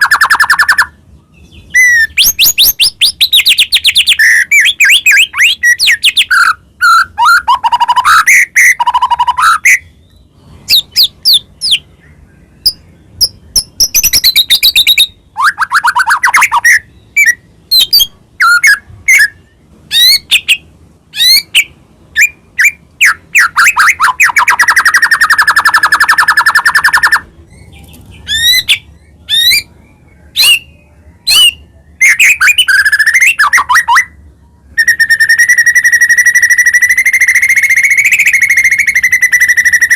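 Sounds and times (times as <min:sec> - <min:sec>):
bird singing whistled song: 0:00.0 - 0:20.6, 0:21.2 - 0:39.9.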